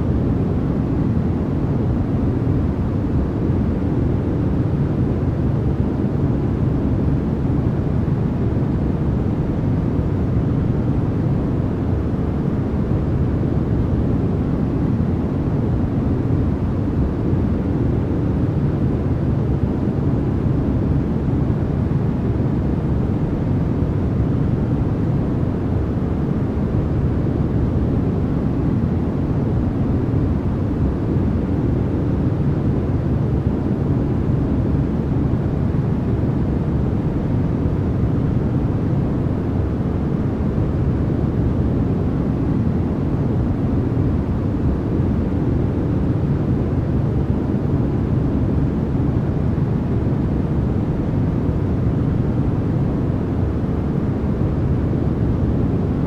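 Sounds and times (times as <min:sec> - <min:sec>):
low rumbling white noise: 0:00.0 - 0:56.0.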